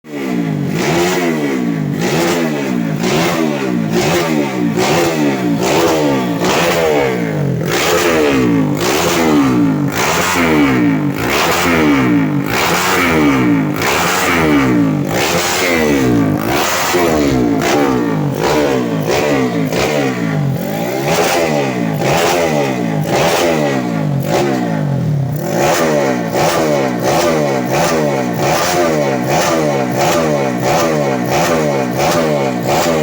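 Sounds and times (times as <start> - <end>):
motorcycle engine revving: 0.1 - 33.0.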